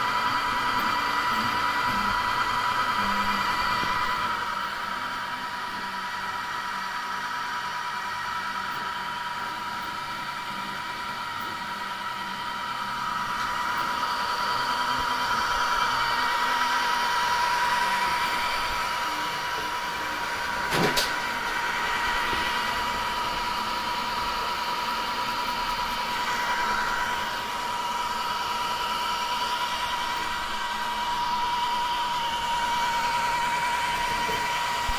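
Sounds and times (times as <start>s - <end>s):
printer motors and fans whining: 0.0s - 34.9s.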